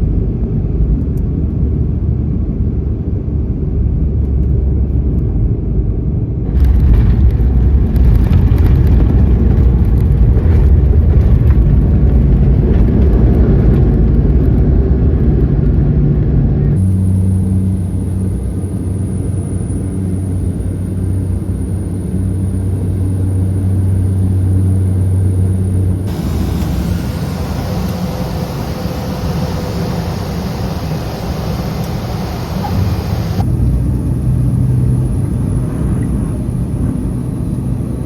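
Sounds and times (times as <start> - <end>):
turboprop engine drone: 0.0 - 38.0.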